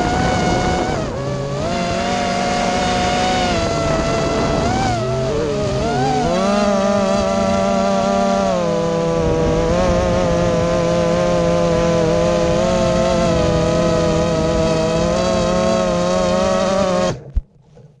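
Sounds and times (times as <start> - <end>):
drone motors buzzing: 0.0 - 17.5.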